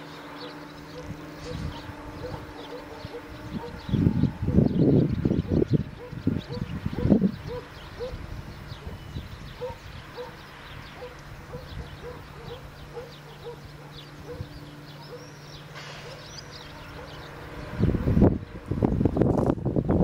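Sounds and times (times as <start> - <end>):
small birds chirping: 0.0 - 19.2.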